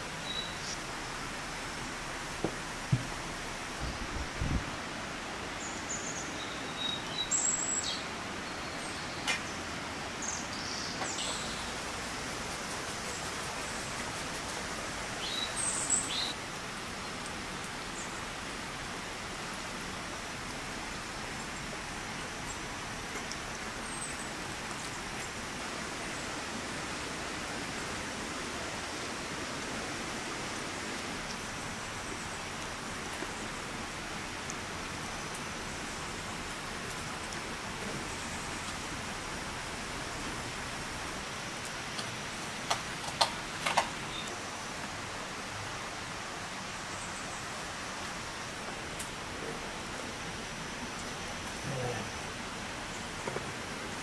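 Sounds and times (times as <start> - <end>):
light rain hissing: 0.0 - 54.0.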